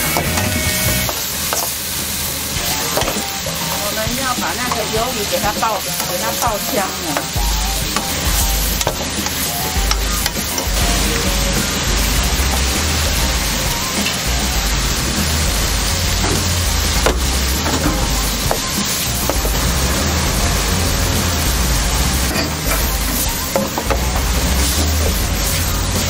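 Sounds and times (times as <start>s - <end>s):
food sizzling in a frying pan: 0.0s - 26.0s
spatula scraping and knocking in pan: 0.0s - 26.0s.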